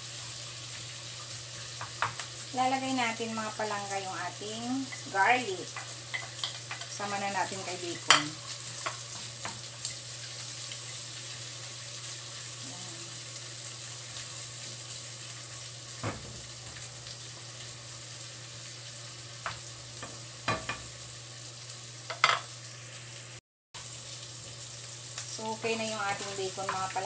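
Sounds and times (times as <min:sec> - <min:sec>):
bacon sizzling in a frying pan: 0:00.0 - 0:27.0.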